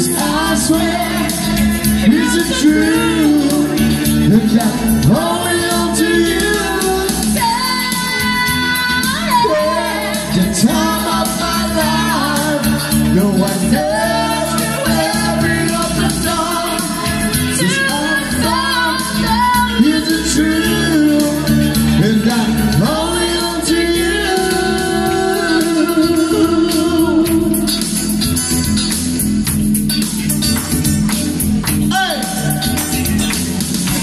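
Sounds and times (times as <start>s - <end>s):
woman singing into microphone: 0.0s - 27.5s
man singing into microphone: 0.0s - 27.7s
amplified backing music: 0.0s - 34.0s.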